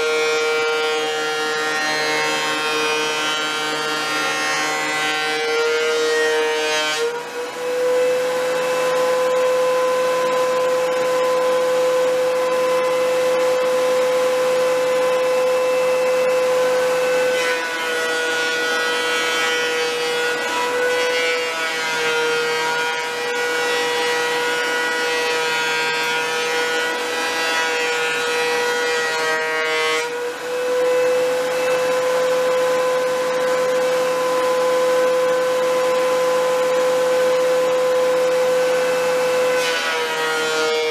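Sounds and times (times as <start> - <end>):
thickness planer whining: 0.0 - 40.9.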